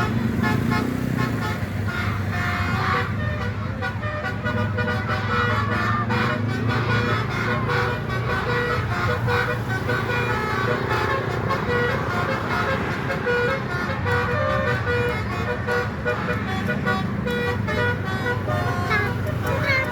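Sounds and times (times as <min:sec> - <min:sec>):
engine and traffic rumble: 0:00.0 - 0:19.9
musical bus air horn: 0:00.0 - 0:19.9.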